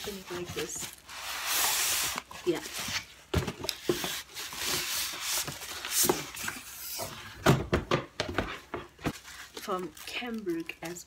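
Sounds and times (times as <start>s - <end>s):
packaging rustling and scraping: 0.0s - 7.4s, 8.3s - 11.0s.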